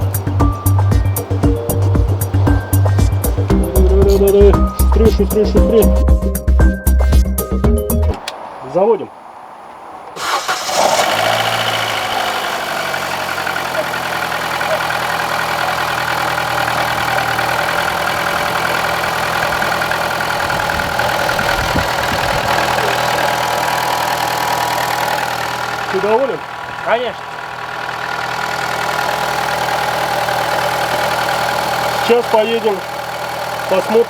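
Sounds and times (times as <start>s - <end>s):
car engine cranking and idling: 0.0s - 8.7s, 9.3s - 34.0s.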